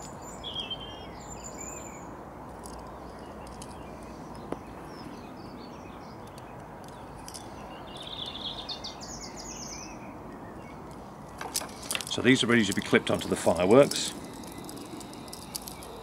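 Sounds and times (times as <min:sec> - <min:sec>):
outdoor background noise: 0:00.0 - 0:16.0
small birds chirping: 0:00.0 - 0:16.0.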